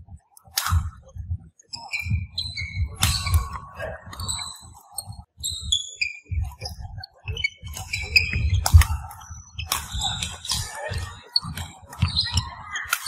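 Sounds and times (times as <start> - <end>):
shoes squeaking on wooden floor: 1.7 - 12.9.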